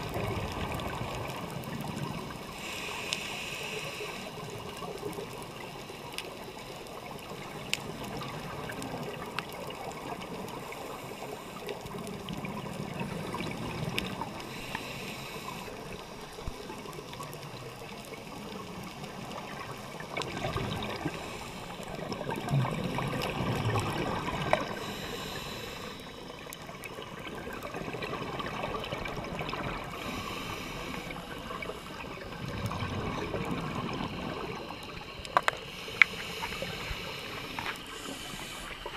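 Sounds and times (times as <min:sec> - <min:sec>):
watery hiss: 0:00.0 - 0:09.0, 0:10.0 - 0:38.9
faint clicks: 0:00.0 - 0:38.9
regulator bubbles gurgling: 0:00.0 - 0:38.9.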